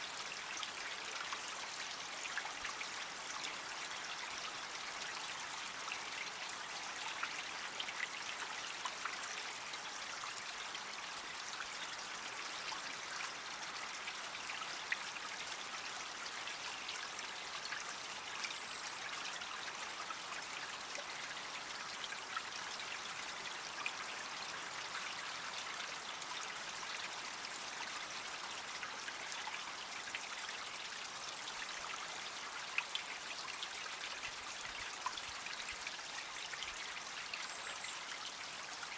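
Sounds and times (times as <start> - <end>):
creek water trickling: 0.0 - 38.9.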